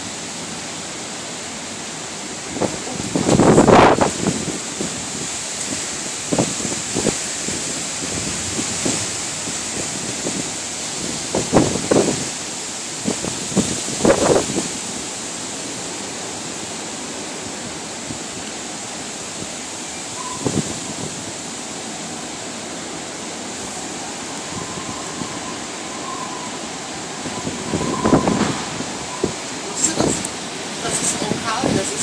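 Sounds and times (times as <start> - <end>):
storm wind rushing through trees: 0.0 - 32.0.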